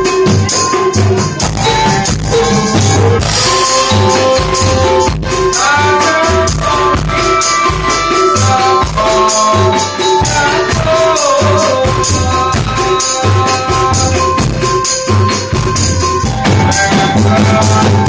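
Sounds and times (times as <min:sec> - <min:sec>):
drum hits: 0:00.0 - 0:18.0
gliding melody line: 0:00.1 - 0:18.0.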